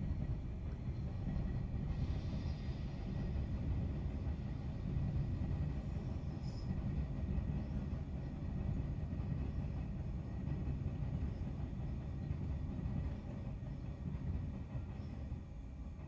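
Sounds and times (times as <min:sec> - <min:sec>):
electric trains rumbling: 0:00.0 - 0:16.0.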